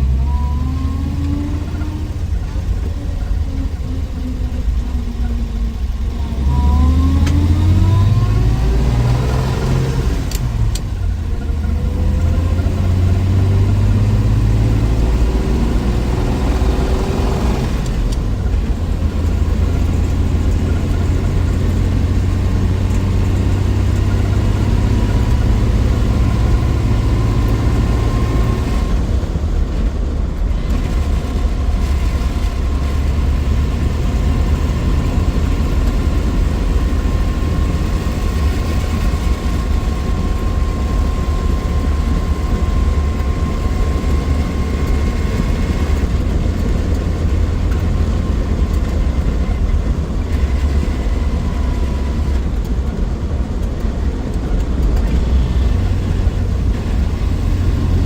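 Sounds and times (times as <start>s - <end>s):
car engine revving and cruising: 0.0s - 58.0s.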